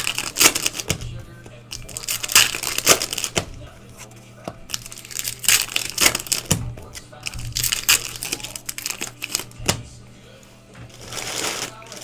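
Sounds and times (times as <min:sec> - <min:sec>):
foil wrappers crinkling and tearing: 0:00.0 - 0:12.0.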